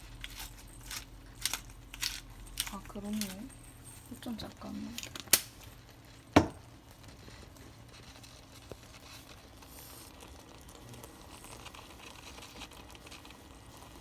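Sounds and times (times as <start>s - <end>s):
quiet rustling and crinkling: 0.0s - 14.0s.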